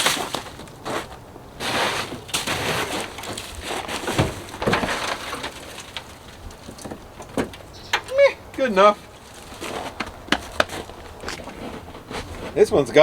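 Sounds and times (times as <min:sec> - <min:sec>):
snow crunching and scraping: 0:00.0 - 0:06.7, 0:08.6 - 0:13.0.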